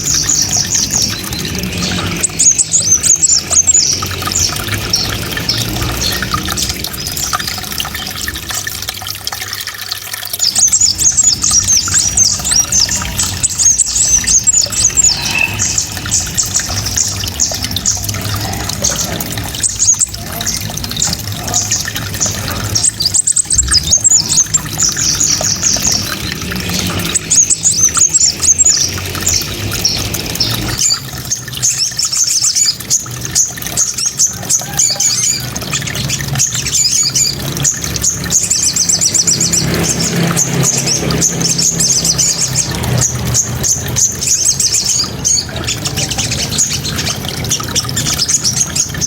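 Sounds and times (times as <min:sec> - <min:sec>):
songbird chirping and trilling: 0:00.0 - 0:08.7, 0:10.2 - 0:49.0.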